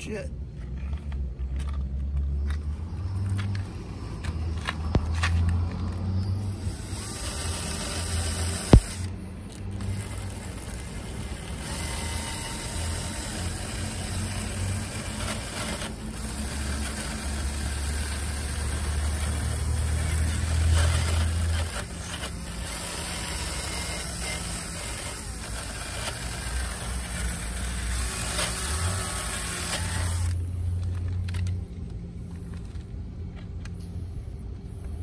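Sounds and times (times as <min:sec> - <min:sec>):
engine humming: 0:00.0 - 0:35.0.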